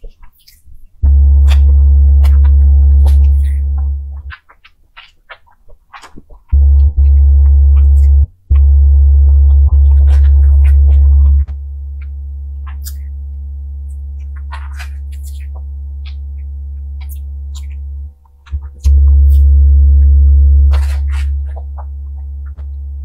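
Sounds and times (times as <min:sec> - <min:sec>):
loud steady low hum: 0:01.0 - 0:04.3, 0:06.6 - 0:23.0.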